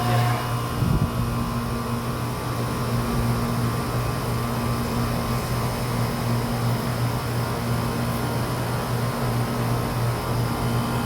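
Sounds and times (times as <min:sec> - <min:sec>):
compressor humming: 0:00.0 - 0:11.0
condenser fan rushing: 0:00.0 - 0:11.0.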